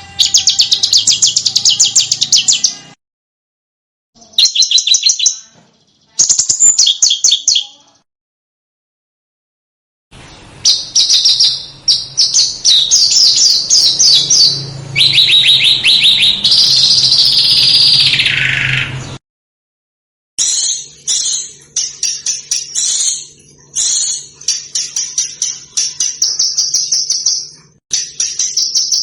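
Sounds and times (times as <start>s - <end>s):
songbird singing: 0.0s - 3.0s, 4.2s - 8.0s, 10.2s - 19.2s, 20.4s - 29.0s.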